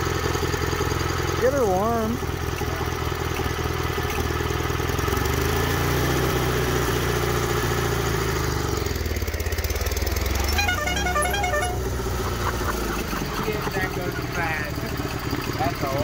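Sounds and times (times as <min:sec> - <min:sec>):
lawn tractor engine idling: 0:00.0 - 0:16.0.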